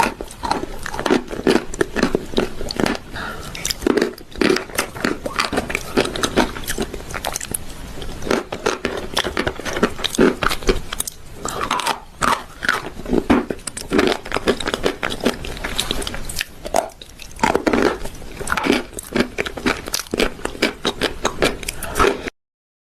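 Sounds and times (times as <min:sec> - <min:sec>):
person crunching and chewing chalk: 0:00.0 - 0:22.3.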